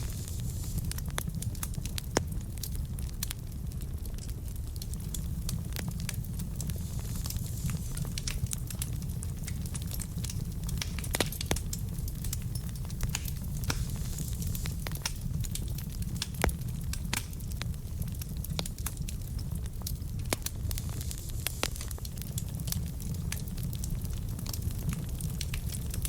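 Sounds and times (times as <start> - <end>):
fire rumbling: 0.0 - 26.0
logs crackling and popping: 0.0 - 26.0.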